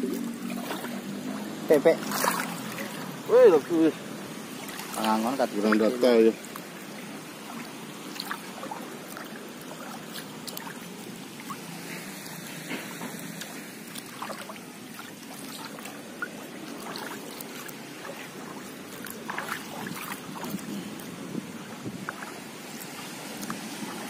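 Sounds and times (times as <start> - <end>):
small splashes: 0.0 - 24.0
water sloshing and trickling: 0.0 - 24.0.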